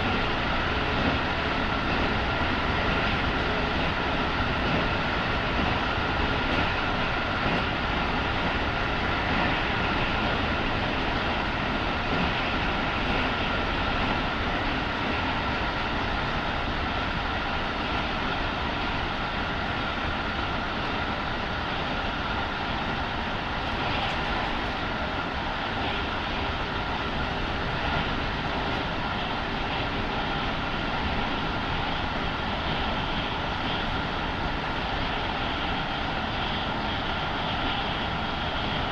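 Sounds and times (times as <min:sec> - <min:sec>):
train wheels rolling on rail: 0:00.0 - 0:38.9.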